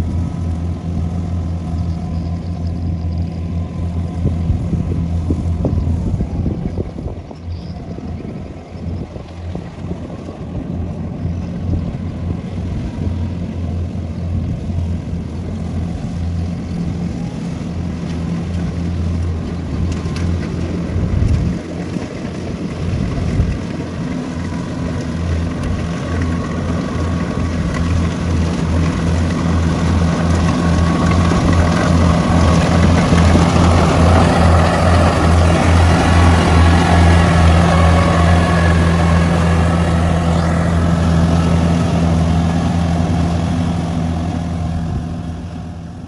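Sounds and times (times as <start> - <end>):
harvester diesel engine droning: 0.0 - 46.0.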